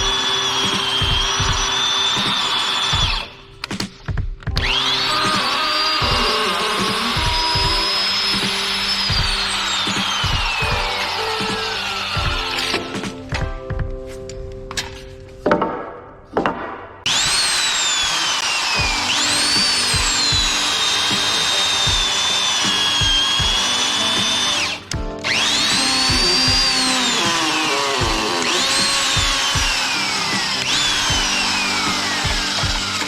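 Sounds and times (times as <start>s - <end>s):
power tool cutting wood: 0.0s - 3.5s, 4.6s - 13.2s, 17.1s - 33.0s
background music beat: 0.0s - 15.8s, 18.3s - 33.0s.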